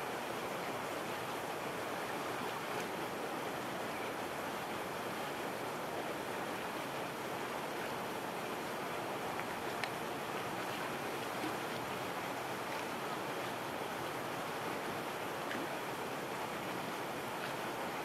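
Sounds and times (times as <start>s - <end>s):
small waves on a lake: 0.0s - 18.0s.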